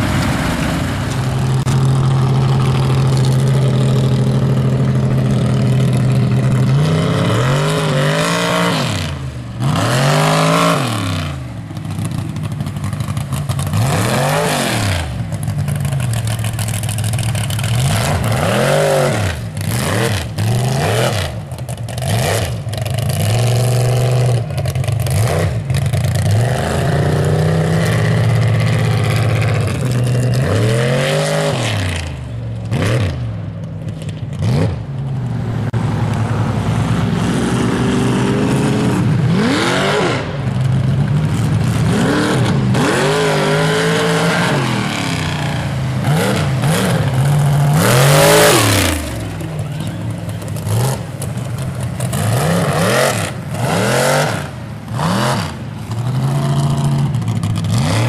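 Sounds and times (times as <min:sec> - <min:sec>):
truck engines revving hard: 0:00.0 - 0:58.0.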